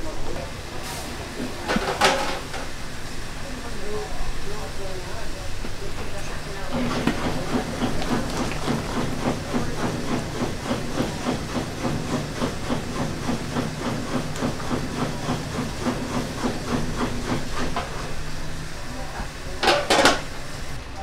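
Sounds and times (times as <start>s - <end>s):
pot of water boiling: 0.0s - 21.0s.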